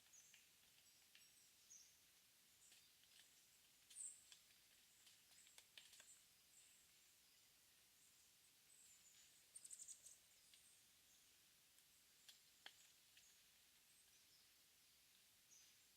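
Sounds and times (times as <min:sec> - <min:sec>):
small birds ticking: 0:00.0 - 0:15.9.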